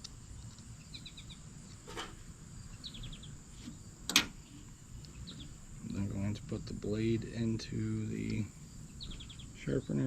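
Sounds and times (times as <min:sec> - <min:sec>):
high wildlife chirps: 0:00.4 - 0:01.9, 0:02.5 - 0:10.0.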